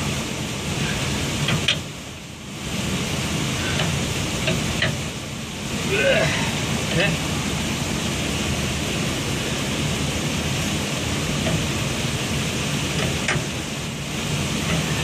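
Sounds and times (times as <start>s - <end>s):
cooling tower water rushing: 0.0s - 15.0s.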